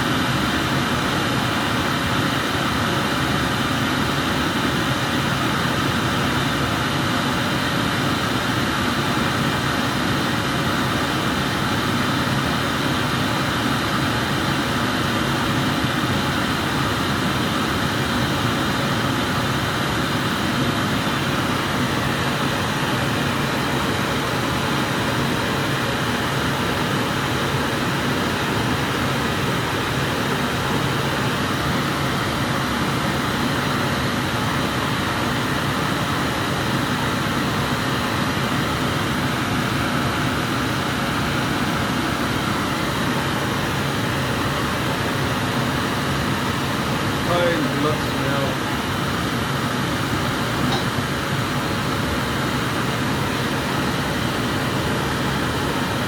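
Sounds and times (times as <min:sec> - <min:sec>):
gas burner flame hissing: 0:00.3 - 0:56.0.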